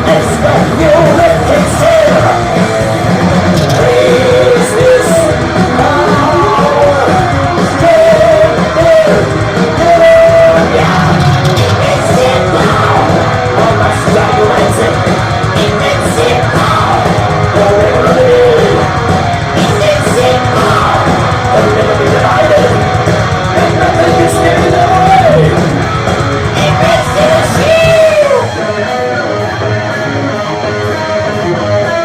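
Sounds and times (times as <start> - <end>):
distorted electric guitars: 0.0 - 32.0
drums: 0.0 - 32.0
high yelled vocals: 0.0 - 32.0.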